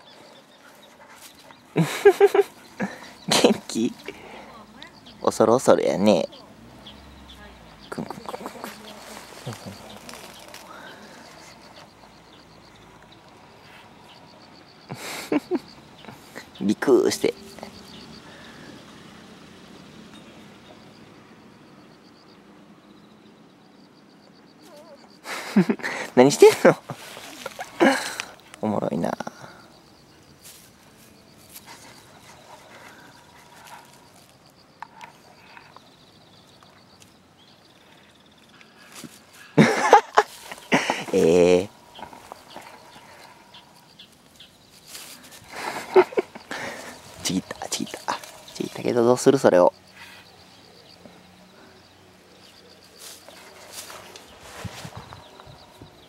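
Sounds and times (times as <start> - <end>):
rustle: 0.0 - 56.0.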